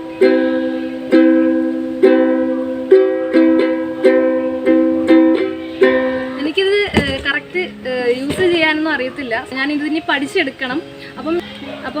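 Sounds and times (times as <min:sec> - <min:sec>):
ukulele strumming: 0:00.0 - 0:11.4.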